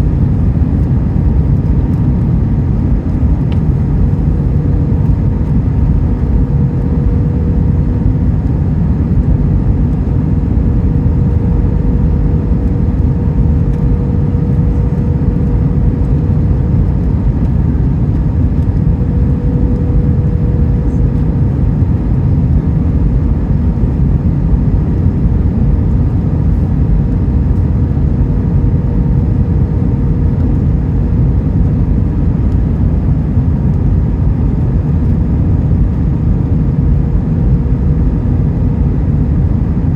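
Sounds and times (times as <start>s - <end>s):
aircraft engine rumble in cabin: 0.0s - 39.9s
faint even hum: 0.0s - 39.9s.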